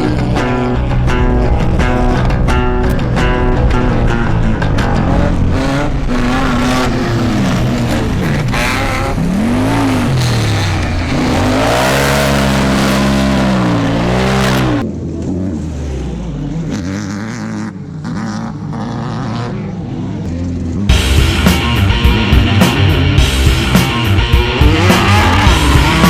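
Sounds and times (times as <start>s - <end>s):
race vehicle engine revving: 0.0s - 26.0s.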